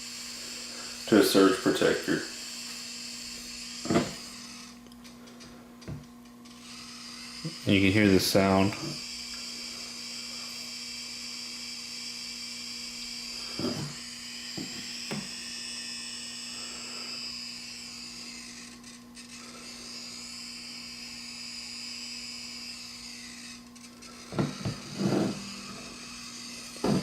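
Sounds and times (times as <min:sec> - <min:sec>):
high-pitched electronic whine: 0:00.0 - 0:04.8, 0:06.5 - 0:27.0.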